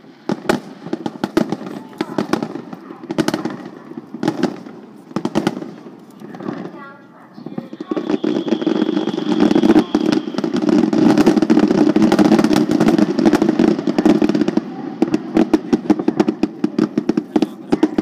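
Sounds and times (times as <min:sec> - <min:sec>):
firework bangs and pops: 0:00.0 - 0:18.0
fireworks bursting: 0:00.0 - 0:18.0.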